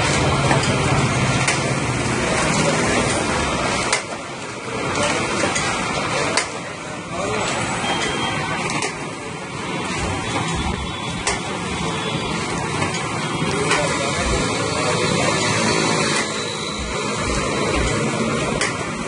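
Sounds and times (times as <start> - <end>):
paper plate machine running: 0.0 - 19.0.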